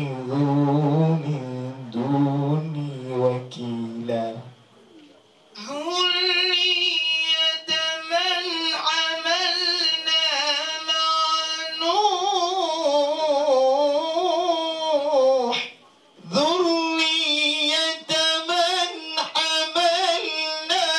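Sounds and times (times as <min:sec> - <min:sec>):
man reciting melodically: 0:00.0 - 0:04.7, 0:05.6 - 0:20.9.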